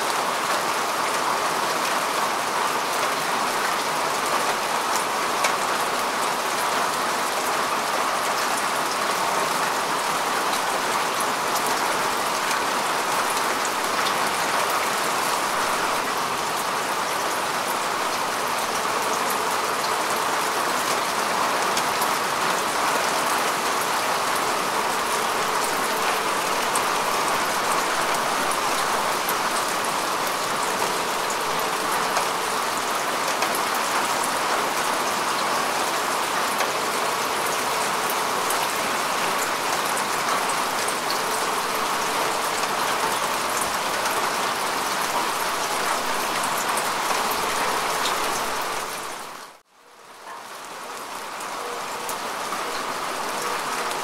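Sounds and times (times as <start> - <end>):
rain falling on grass: 0.0 - 54.0.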